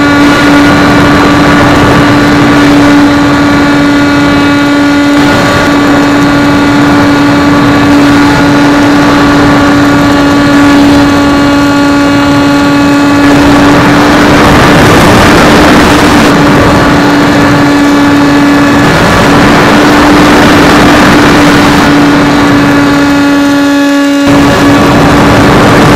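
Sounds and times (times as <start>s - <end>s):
electric motor whine: 0.0s - 25.9s
wind rush on microphone: 0.0s - 25.9s.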